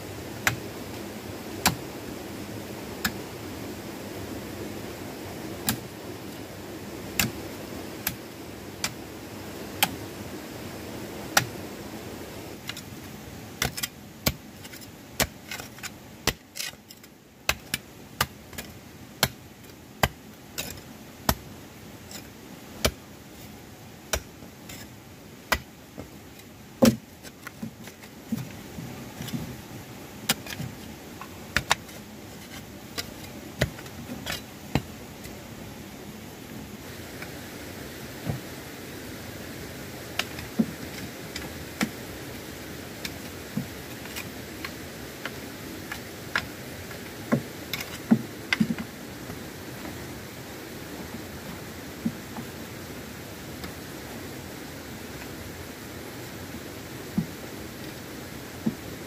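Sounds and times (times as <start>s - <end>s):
steady low background noise: 0.0s - 59.0s.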